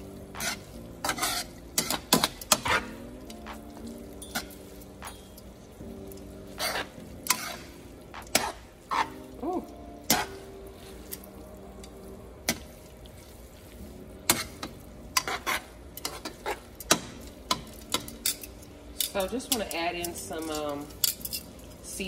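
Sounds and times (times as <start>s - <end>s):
light sizzle: 0.0s - 22.0s.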